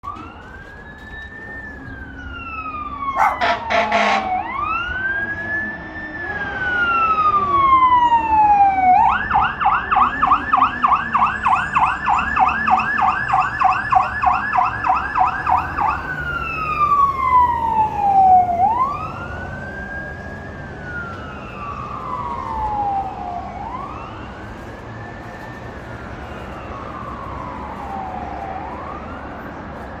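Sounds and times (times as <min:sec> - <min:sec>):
emergency vehicle siren: 0:00.0 - 0:30.0.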